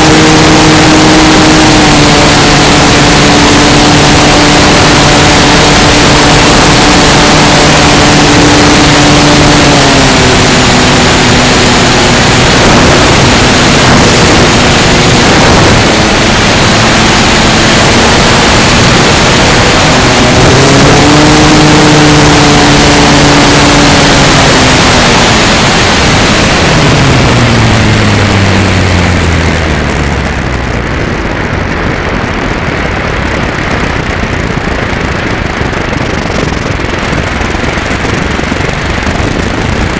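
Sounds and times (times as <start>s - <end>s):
electric motor and propeller: 0.0s - 39.9s
heavy wind rush: 0.0s - 39.9s.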